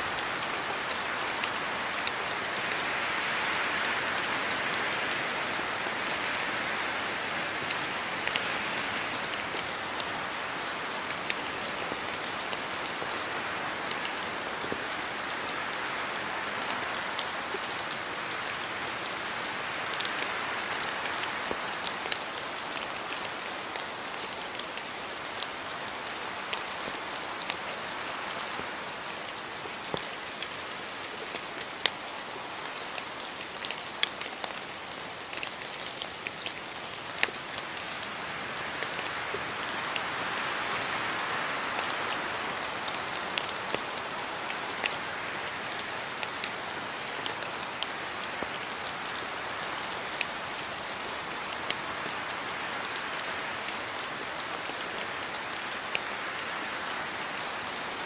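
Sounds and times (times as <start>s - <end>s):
raindrops ticking and splashing: 0.0s - 58.0s
steady rain falling: 0.0s - 58.0s.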